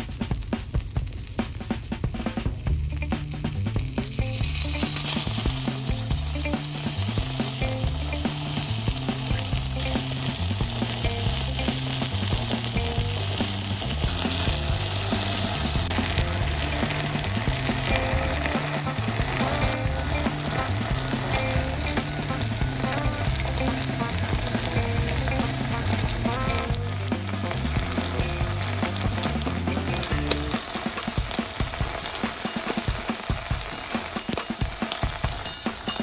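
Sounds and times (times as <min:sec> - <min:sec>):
low stepping tones: 0:00.0 - 0:32.2
bacon sizzling on a griddle: 0:00.0 - 0:36.0.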